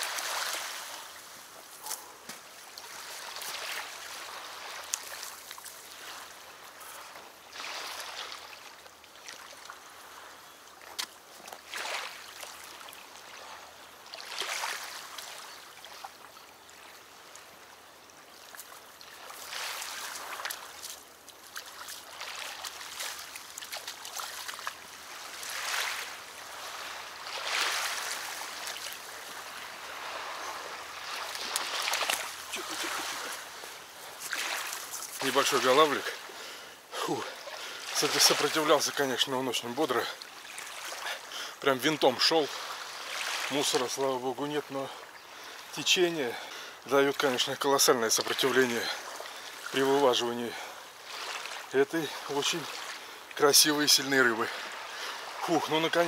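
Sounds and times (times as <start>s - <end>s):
water rushing at river's edge: 0.0s - 56.0s.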